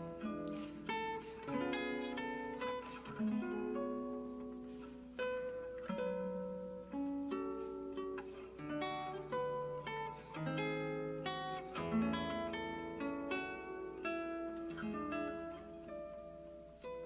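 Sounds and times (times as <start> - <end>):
acoustic guitar plucked melody: 0.0 - 17.0.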